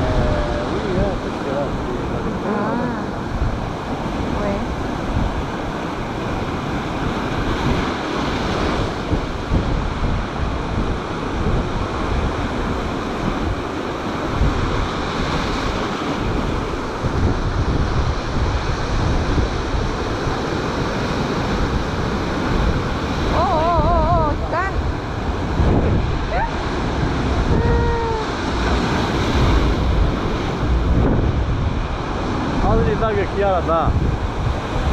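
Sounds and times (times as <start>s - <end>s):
sea waves breaking on shore: 0.0s - 34.9s
wind buffeting microphone: 0.0s - 34.9s.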